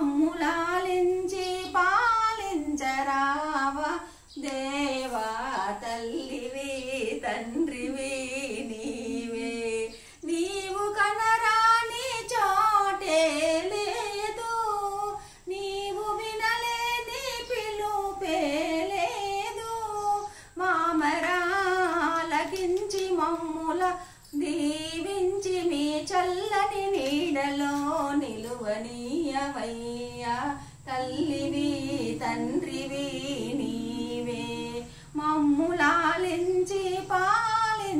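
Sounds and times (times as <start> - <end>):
woman singing unaccompanied: 0.0 - 37.9.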